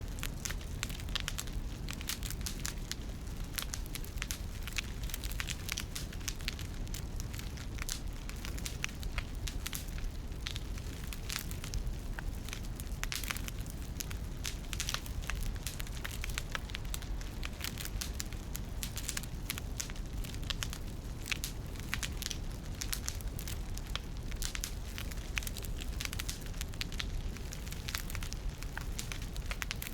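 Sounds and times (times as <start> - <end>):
low rumble of wind: 0.0 - 29.9
wood fire crackling and popping: 0.0 - 29.9.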